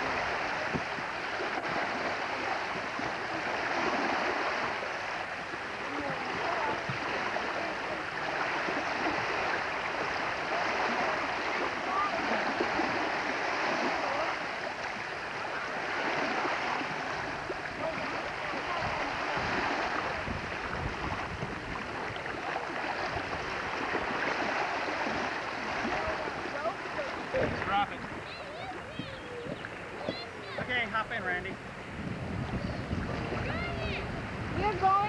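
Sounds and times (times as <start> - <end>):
rushing water: 0.0 - 35.0
wind buffeting microphone: 0.0 - 35.0.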